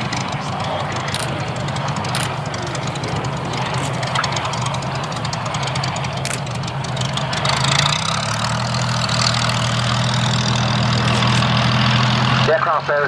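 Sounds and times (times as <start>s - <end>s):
piston engine low drone: 0.0s - 12.6s.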